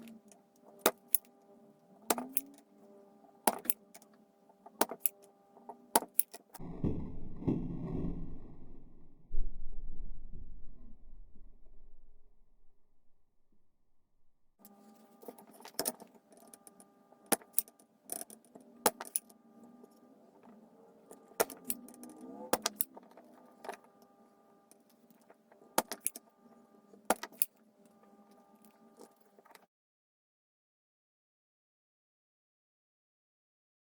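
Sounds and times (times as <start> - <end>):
electrical hum: 0.0 - 29.6.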